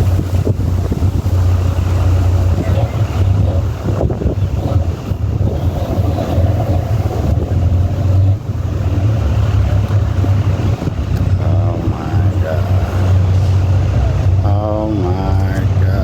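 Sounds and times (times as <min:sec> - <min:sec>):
crane engine rumbling: 0:00.0 - 0:16.0
wind buffeting microphone: 0:00.0 - 0:16.0.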